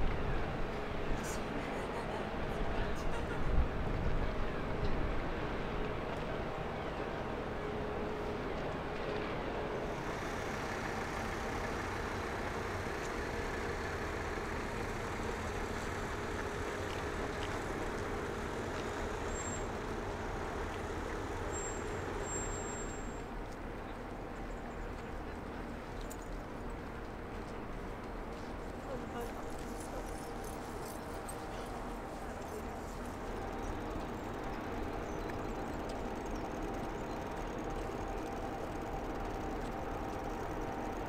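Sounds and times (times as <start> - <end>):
ship engine drone: 0.0 - 41.0.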